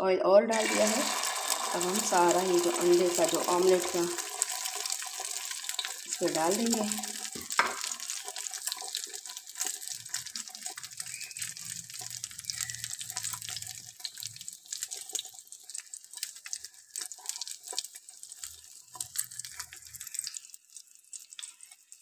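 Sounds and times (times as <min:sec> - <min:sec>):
omelette sizzling in hot oil: 0:00.5 - 0:22.0.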